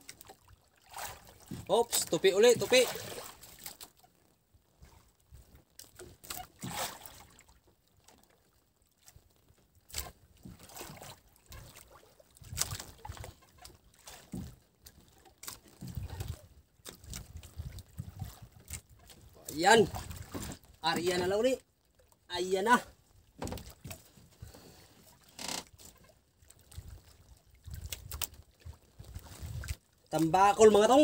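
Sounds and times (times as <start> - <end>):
water sloshing against boat: 0.0 - 31.0.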